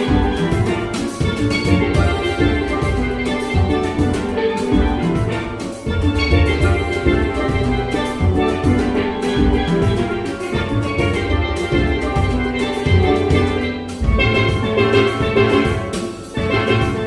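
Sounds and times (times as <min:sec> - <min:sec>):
drum kit beat: 0:00.0 - 0:17.0
steel pans playing melody: 0:00.0 - 0:17.0.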